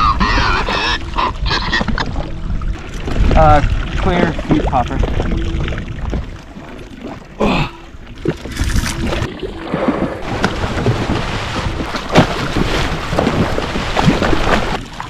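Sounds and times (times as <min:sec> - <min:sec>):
water sloshing against hull: 0:00.0 - 0:15.0.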